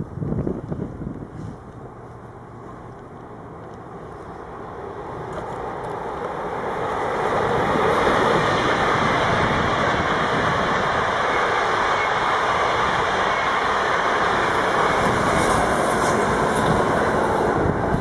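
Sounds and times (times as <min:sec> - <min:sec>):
train rail noise: 0:00.0 - 0:18.0.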